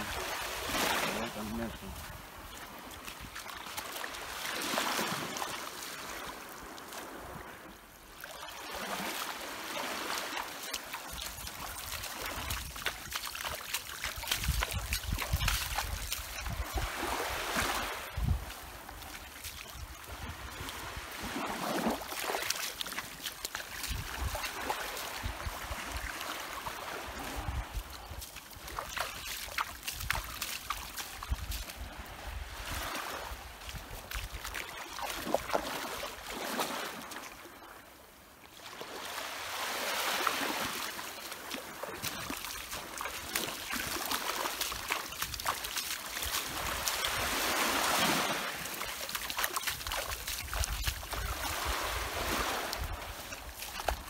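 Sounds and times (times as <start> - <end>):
water sloshing from wading: 0.0 - 37.4, 38.7 - 54.0
small waves washing ashore: 0.0 - 54.0.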